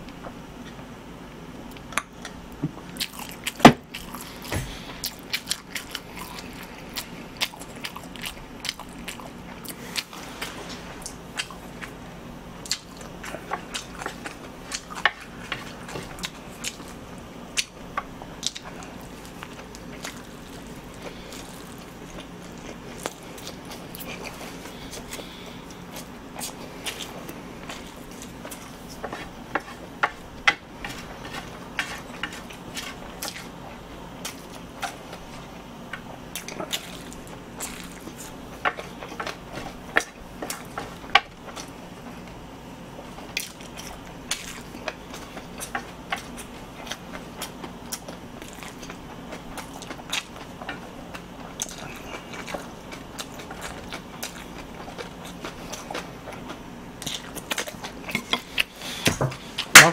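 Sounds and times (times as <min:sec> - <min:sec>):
chewing noodles: 0:01.7 - 0:59.9.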